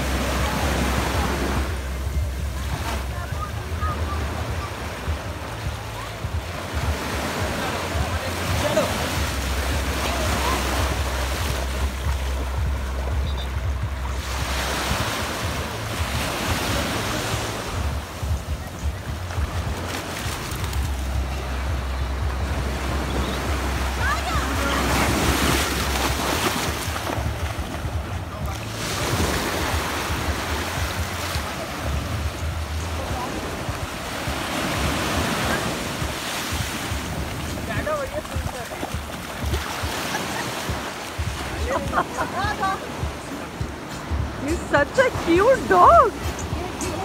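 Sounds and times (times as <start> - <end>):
sea waves breaking on beach: 0.0 - 47.0.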